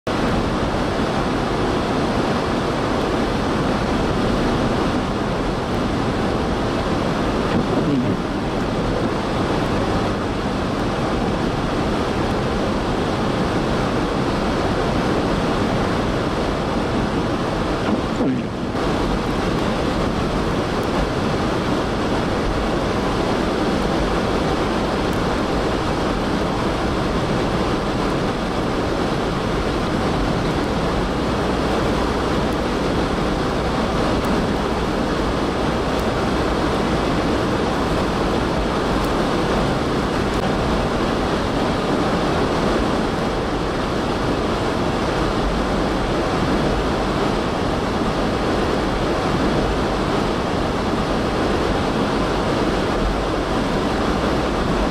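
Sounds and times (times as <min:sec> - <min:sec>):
strong blizzard wind: 0:00.0 - 0:54.9
vehicle road noise: 0:00.1 - 0:54.9.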